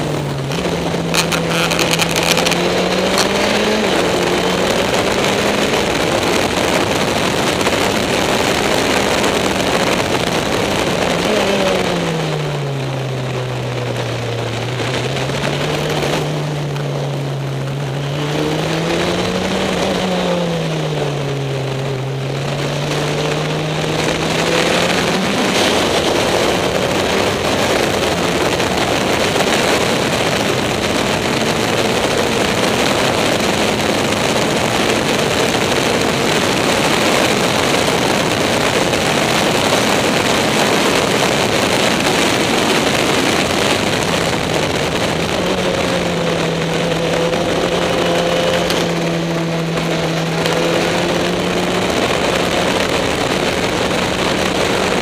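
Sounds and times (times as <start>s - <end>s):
race car engine at speed: 0.0s - 55.0s
wind and road rush: 0.0s - 55.0s.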